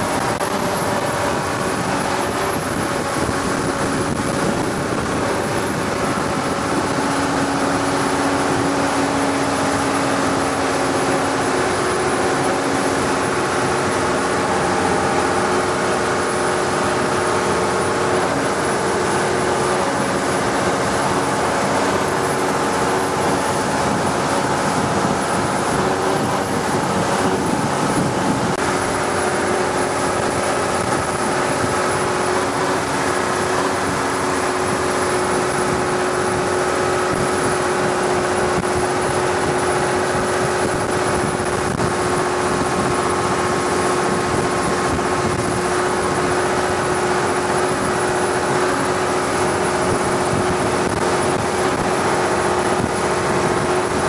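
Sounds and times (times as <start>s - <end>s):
boat engine droning: 0.0s - 54.0s
rushing water noise: 0.0s - 54.0s.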